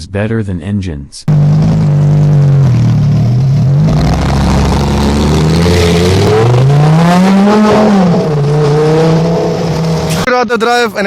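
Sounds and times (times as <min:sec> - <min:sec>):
car engine revving loudly: 0:01.3 - 0:10.2.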